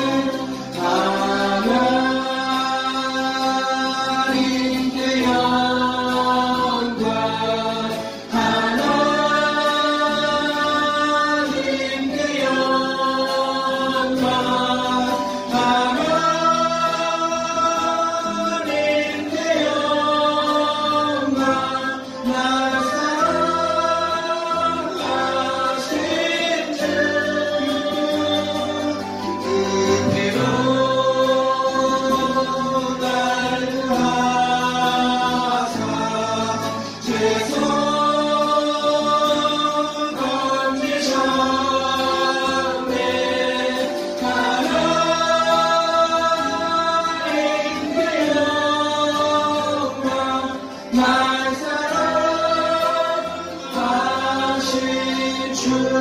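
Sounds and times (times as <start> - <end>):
praise band with keyboard: 0.0 - 56.0
voices singing worship song: 0.0 - 56.0.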